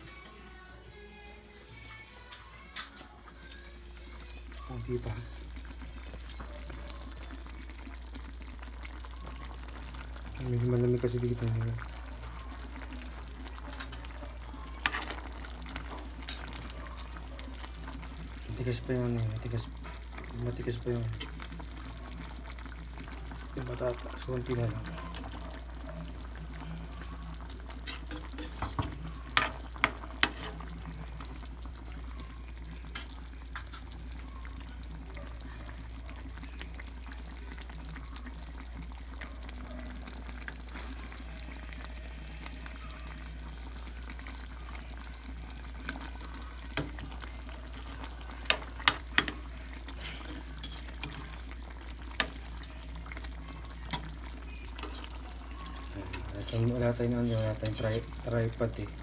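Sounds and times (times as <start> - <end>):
stew simmering in a pan: 1.6 - 59.0.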